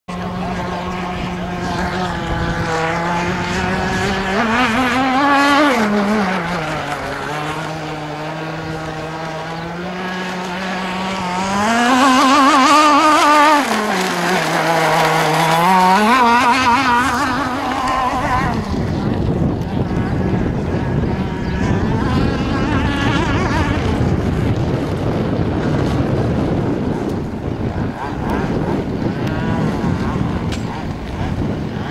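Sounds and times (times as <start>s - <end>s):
two-stroke boat engine running flat out: 0.1s - 31.9s.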